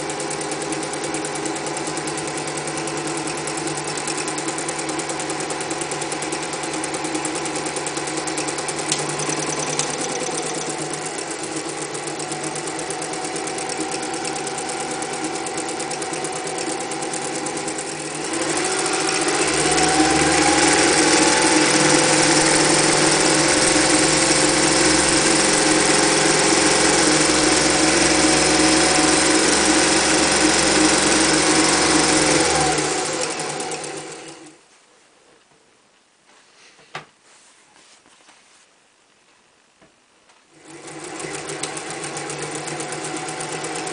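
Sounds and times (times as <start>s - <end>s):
electric sewing machine running: 0.0s - 34.6s, 40.6s - 43.9s.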